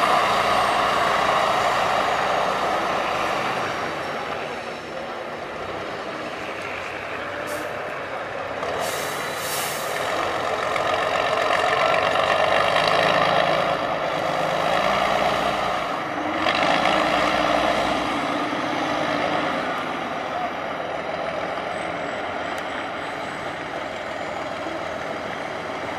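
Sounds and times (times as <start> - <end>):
truck diesel engine working hard: 0.0 - 25.9.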